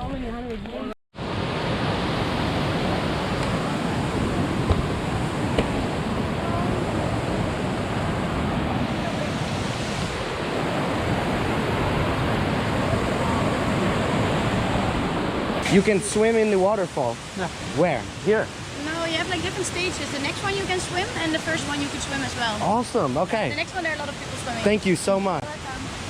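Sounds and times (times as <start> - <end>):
waterfall rushing: 1.2 - 26.0.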